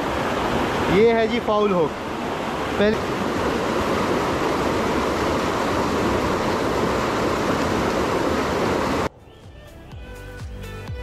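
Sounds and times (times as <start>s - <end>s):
stream rushing over rocks: 0.0s - 9.1s.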